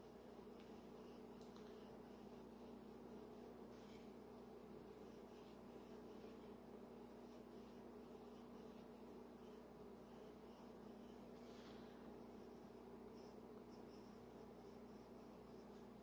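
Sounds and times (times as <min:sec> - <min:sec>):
pencil scratching on paper: 0:00.0 - 0:16.0.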